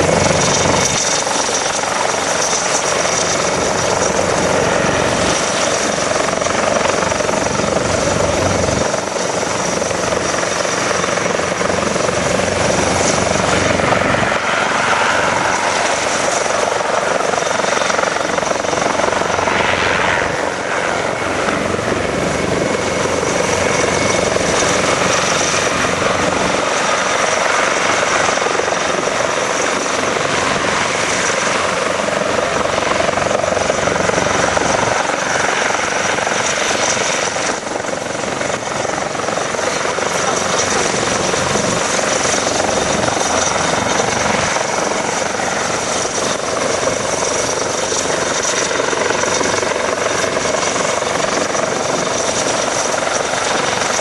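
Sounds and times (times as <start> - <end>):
helicopter rotor and turbine noise: 0.0 - 54.0.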